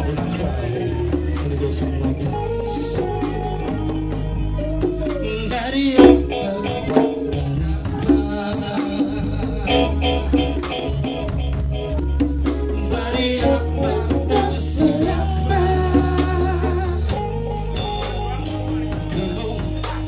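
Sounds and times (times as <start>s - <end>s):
bass guitar: 0.0s - 20.0s
drum kit: 0.0s - 20.0s
hand percussion: 1.1s - 20.0s.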